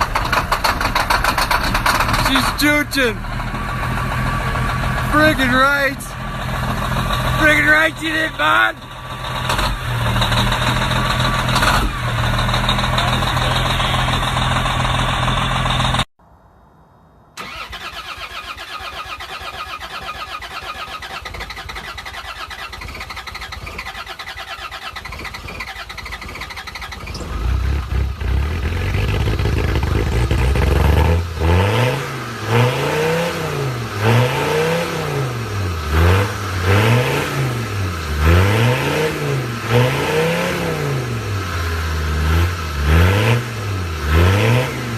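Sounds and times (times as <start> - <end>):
diesel engine cranking on starter: 0.0 - 16.1, 17.4 - 44.9
diesel engine revving: 0.0 - 16.1, 17.4 - 44.9
diesel engine running: 0.0 - 16.1, 21.0 - 44.9.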